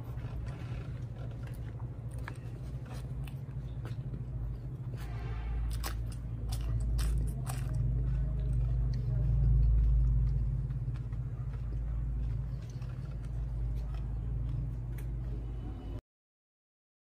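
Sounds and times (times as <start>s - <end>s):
close-up chewing: 0.0s - 15.5s
steady low rumble: 0.0s - 16.0s
crunching bites into chili: 0.1s - 15.2s.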